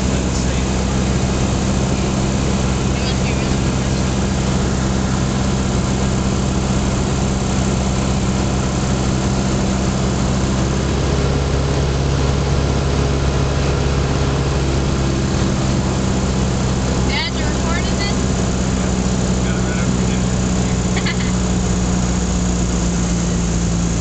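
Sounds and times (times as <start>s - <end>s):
airplane engine and propeller droning: 0.0s - 24.0s.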